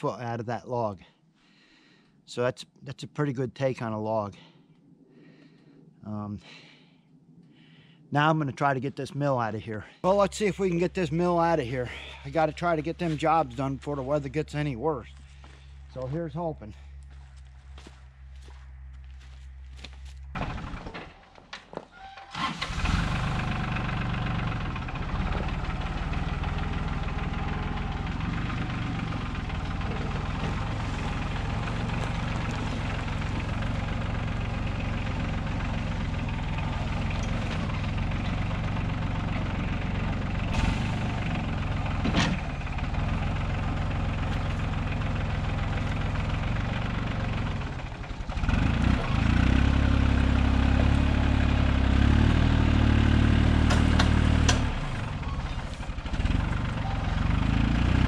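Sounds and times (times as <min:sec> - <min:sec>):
tractor engine running: 0:10.1 - 0:58.0.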